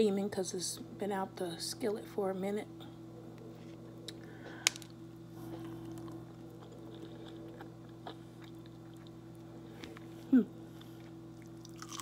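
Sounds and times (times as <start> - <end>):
low hum: 0.7 - 12.0.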